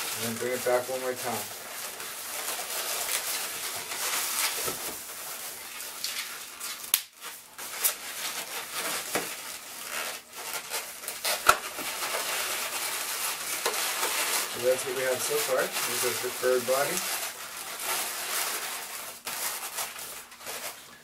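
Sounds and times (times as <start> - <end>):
balloons rubbing and crackling: 0.0 - 21.0.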